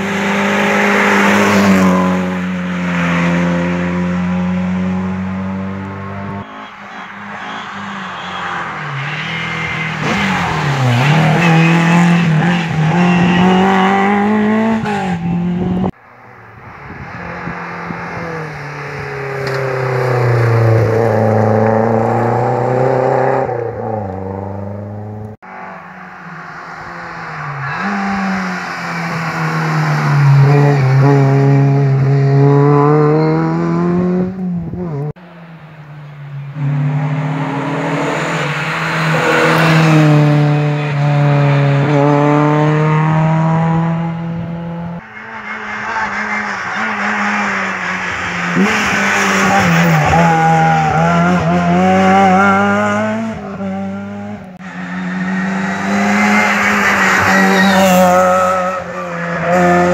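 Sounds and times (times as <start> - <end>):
rally car engines revving past: 0.0 - 35.3, 36.0 - 59.9.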